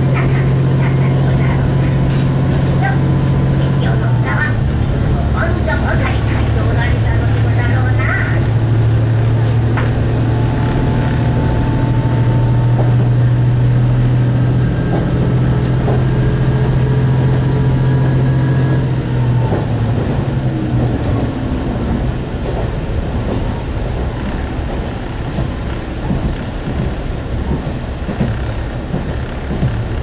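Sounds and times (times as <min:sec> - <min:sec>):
diesel engine drone: 0:00.0 - 0:30.0
train wheels on track: 0:00.0 - 0:30.0.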